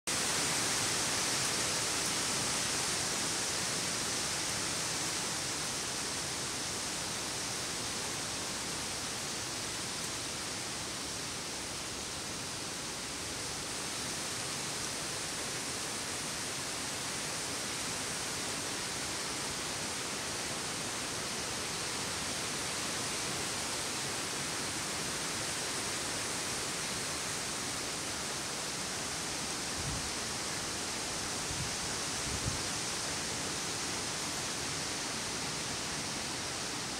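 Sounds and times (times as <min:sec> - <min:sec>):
wind rustling leaves: 0:00.1 - 0:36.9.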